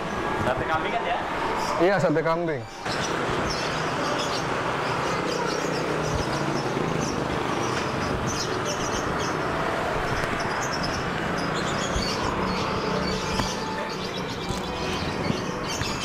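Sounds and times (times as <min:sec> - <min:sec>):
motorbike traffic: 0:00.0 - 0:16.0.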